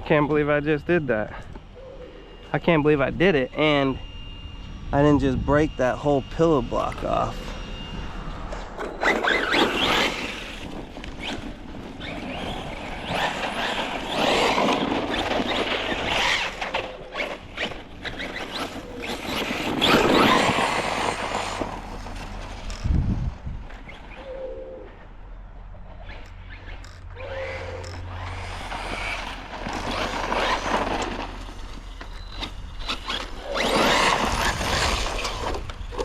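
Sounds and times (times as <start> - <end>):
rc car motor whining: 0.2 - 36.0.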